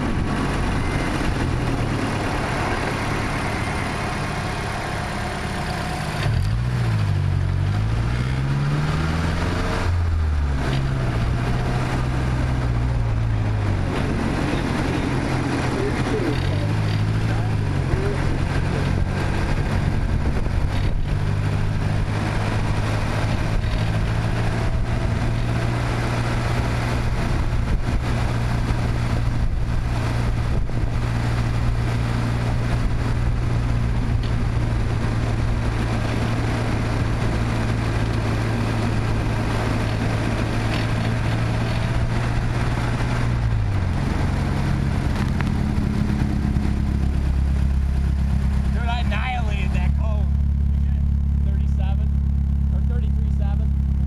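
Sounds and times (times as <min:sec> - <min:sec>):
car engine pulling: 0:00.0 - 0:54.0
wind and road noise: 0:00.0 - 0:54.0.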